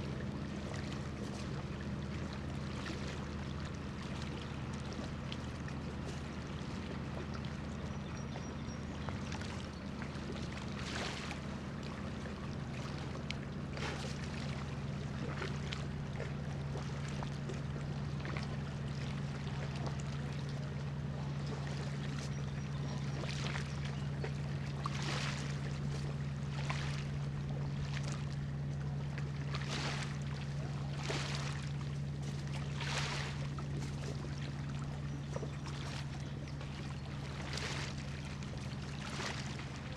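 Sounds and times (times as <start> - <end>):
ship engines droning: 0.0 - 39.9
small waves splashing: 0.0 - 39.9.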